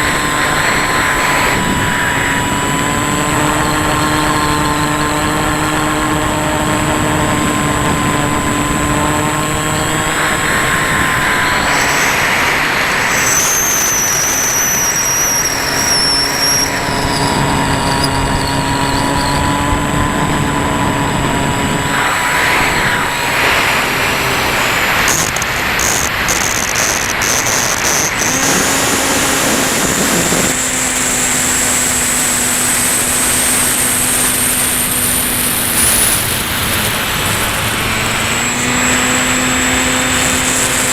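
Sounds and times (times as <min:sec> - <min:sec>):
model plane motor drone: 0:00.0 - 0:40.9
thin high whine: 0:00.0 - 0:40.9.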